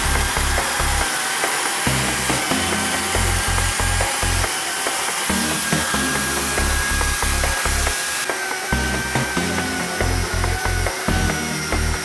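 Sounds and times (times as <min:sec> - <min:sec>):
background music: 0:00.0 - 0:12.0
blade grinding concrete: 0:00.0 - 0:12.0
high motor whine: 0:00.0 - 0:12.0.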